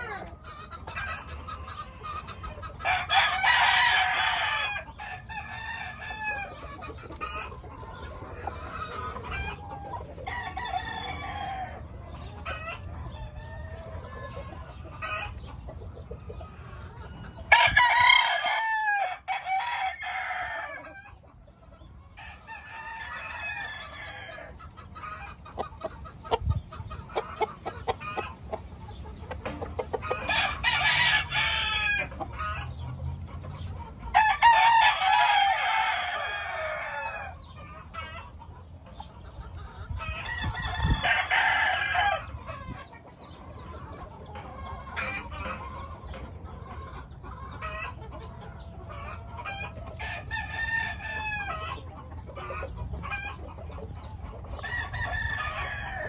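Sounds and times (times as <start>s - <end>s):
roosters crowing: 0.0s - 38.7s, 39.9s - 56.0s
rooster clucks and clicks: 0.0s - 56.0s.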